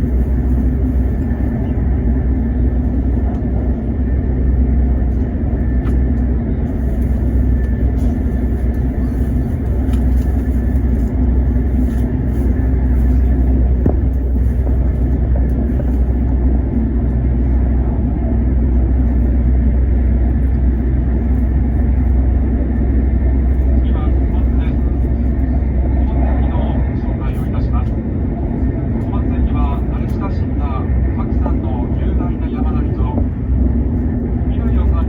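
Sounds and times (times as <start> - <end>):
train rumbling inside cabin: 0.0 - 35.0.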